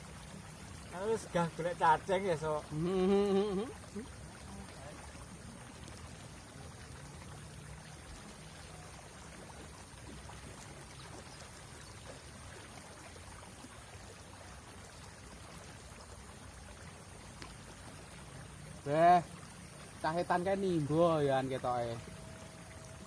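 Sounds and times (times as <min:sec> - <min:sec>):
river water flowing: 0:00.0 - 0:23.0.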